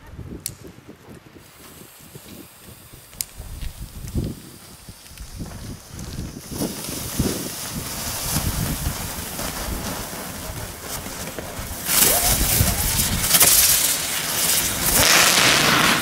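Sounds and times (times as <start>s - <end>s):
ground firework fountains hissing: 0.4s - 16.0s.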